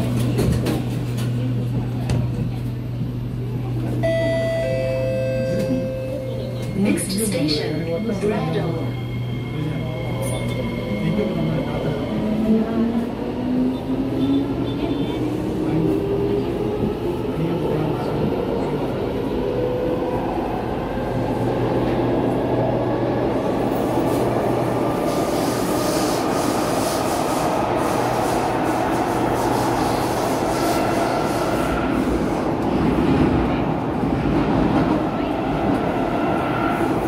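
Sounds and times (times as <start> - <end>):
rumble of train wheels: 0.0 - 37.0
train rattling in tunnel: 0.0 - 37.0.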